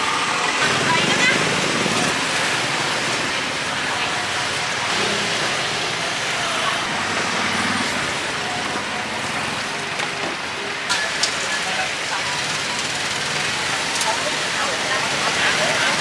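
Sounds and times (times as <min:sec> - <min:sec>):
faint voices: 0:00.0 - 0:16.0
road traffic passing: 0:00.0 - 0:16.0.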